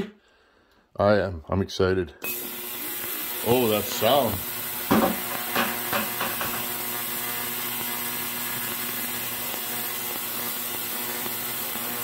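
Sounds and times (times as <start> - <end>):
ultrasonic cleaner humming: 2.2 - 12.0.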